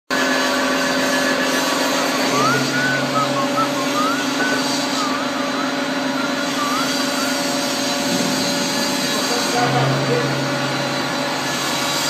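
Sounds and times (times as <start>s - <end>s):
hydraulic mixer droning: 0.1s - 12.0s.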